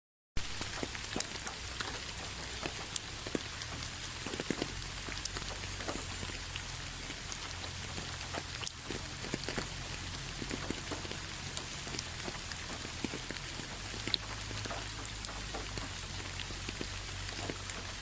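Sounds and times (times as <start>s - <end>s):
low steady rumble: 0.4s - 18.0s
rain falling: 0.4s - 18.0s
raindrops pattering on a surface: 0.4s - 18.0s.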